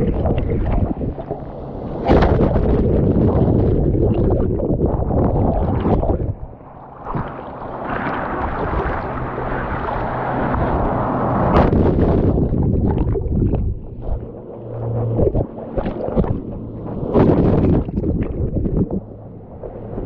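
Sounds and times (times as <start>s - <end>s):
ocean surf sloshing: 0.0s - 20.0s
wind buffeting microphone: 0.0s - 20.0s.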